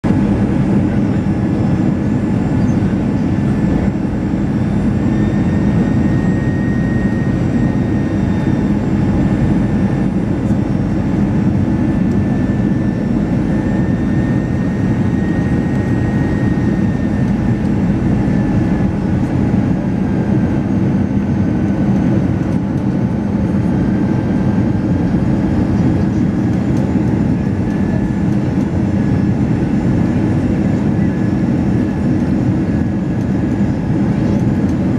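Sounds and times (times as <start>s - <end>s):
jet engine cabin roar: 0.0s - 34.9s.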